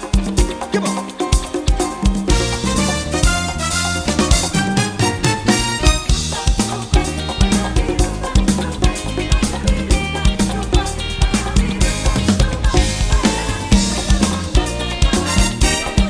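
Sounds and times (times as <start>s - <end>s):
drum kit dance rhythm: 0.0s - 16.0s
latin pop band playing: 0.0s - 16.0s.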